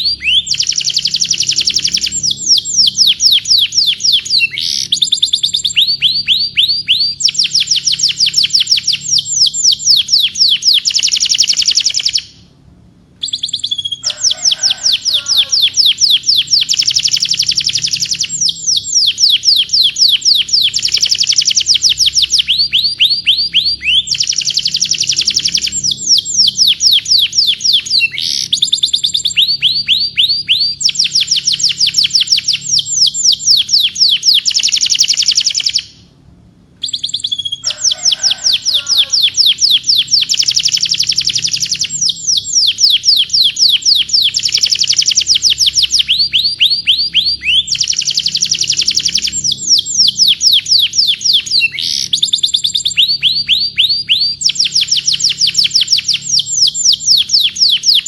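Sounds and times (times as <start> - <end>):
canary singing rolling trills: 0.0 - 36.2, 36.8 - 58.0.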